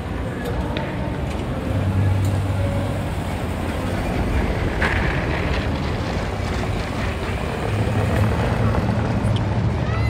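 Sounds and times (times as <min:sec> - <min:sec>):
engine hum: 0:00.0 - 0:10.0
traffic rumble: 0:00.0 - 0:10.0.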